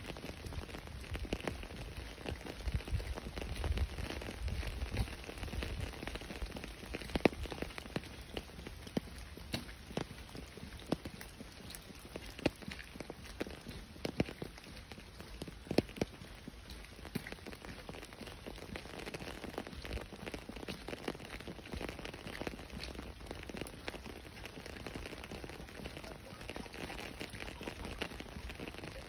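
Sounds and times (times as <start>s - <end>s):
rain on a wet street: 0.0s - 29.0s.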